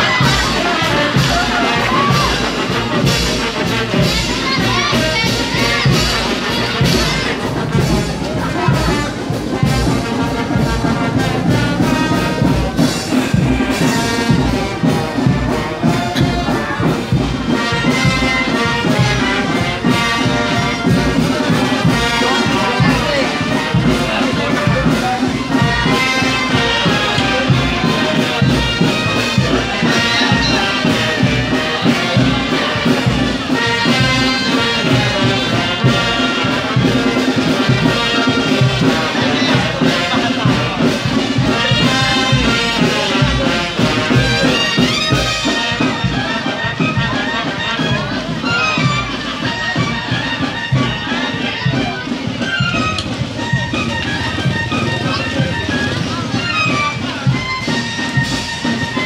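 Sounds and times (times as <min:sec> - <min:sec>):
brass band playing: 0:00.0 - 0:59.0
drum beat: 0:00.0 - 0:59.0.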